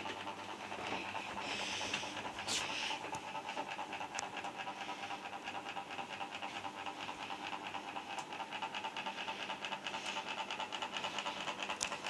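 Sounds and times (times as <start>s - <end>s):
ceiling fan humming: 0.0s - 12.0s.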